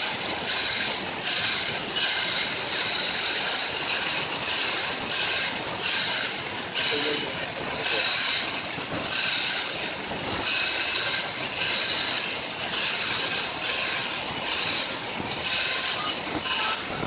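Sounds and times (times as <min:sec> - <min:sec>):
angle grinder grinding stone: 0:00.0 - 0:17.0.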